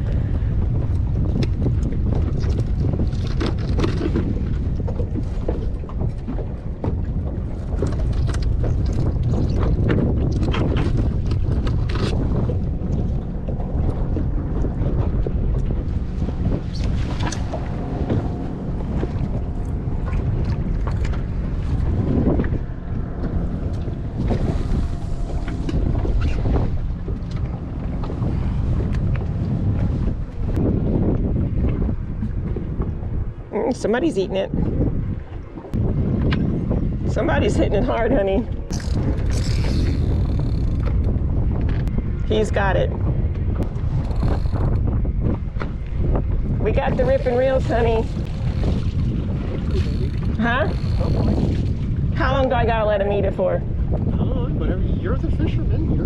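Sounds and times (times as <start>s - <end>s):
waves splashing against hull: 0.0s - 56.0s
wind rumbling on microphone: 0.0s - 56.0s.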